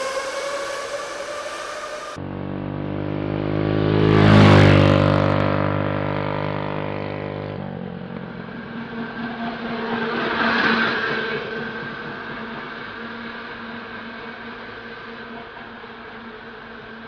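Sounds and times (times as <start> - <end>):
electric go-kart motor whining: 0.0 - 17.0.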